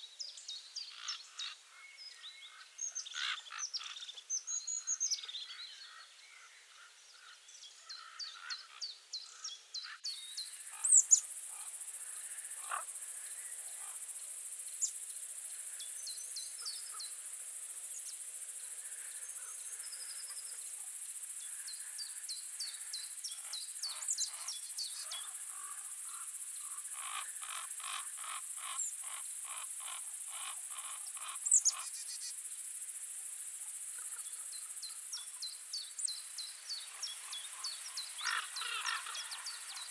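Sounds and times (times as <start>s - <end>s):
small birds chirping and trilling: 0.0s - 32.5s, 33.6s - 39.9s
rapid repeated bird calls: 0.0s - 39.9s.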